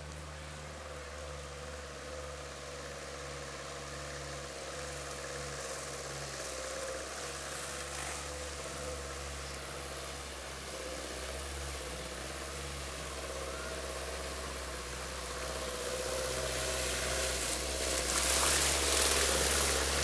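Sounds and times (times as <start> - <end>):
distant diesel engine running: 0.0 - 20.0
faint hiss of water: 0.0 - 20.0.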